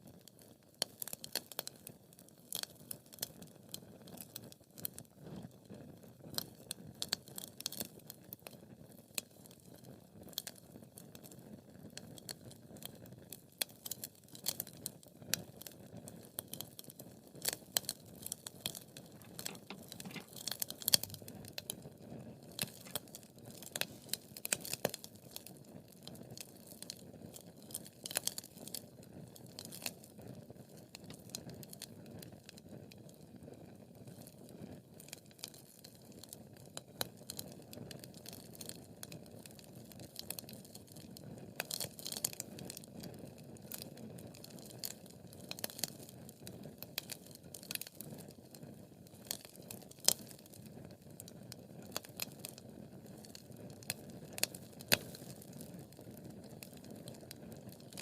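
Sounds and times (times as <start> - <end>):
wood fire crackling and popping: 0.2 - 58.0.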